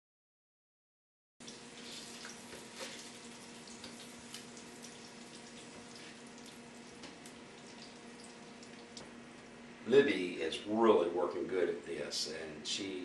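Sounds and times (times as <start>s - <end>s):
low steady hum: 1.4s - 13.0s.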